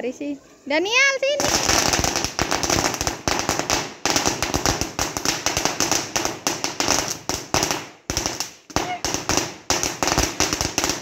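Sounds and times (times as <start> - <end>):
firecrackers banging: 1.0 - 11.0.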